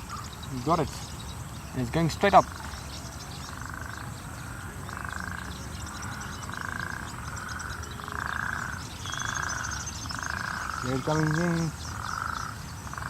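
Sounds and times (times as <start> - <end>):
faint high chirping: 0.0 - 13.0.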